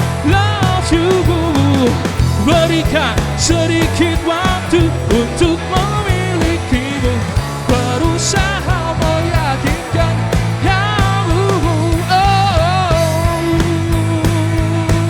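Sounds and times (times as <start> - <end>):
pop-rock band music: 0.0 - 15.0
sliding lead melody: 0.0 - 15.0.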